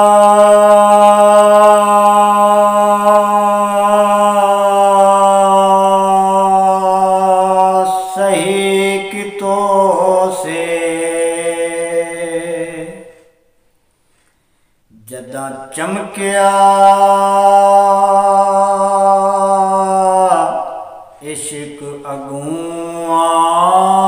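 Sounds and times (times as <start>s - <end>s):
man singing unaccompanied: 0.0s - 13.2s, 15.0s - 24.0s.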